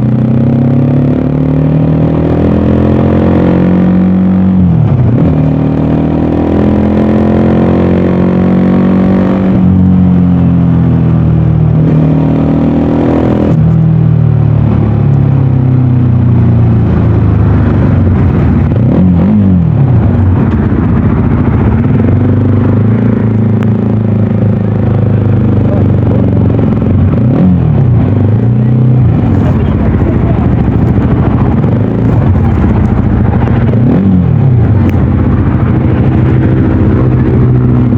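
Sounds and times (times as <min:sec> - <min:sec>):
motorcycle engine and exhaust: 0:00.0 - 0:37.9.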